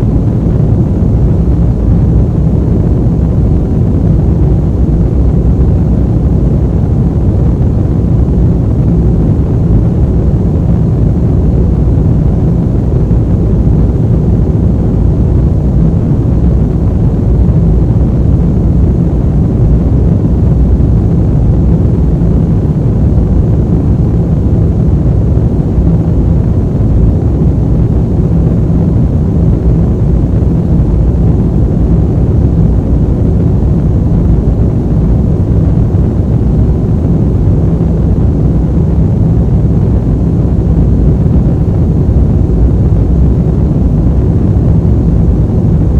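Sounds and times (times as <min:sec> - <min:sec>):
aircraft engine rumble: 0:00.0 - 0:45.9.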